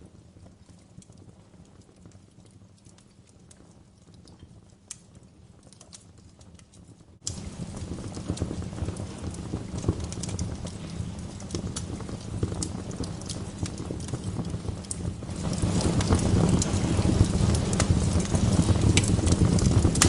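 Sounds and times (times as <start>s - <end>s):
log fire crackling and popping: 0.0s - 20.0s.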